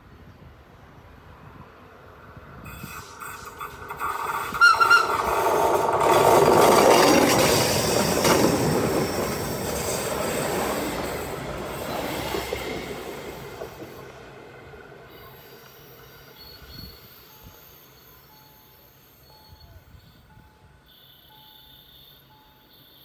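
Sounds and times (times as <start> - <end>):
electric train passing: 0.6 - 23.0.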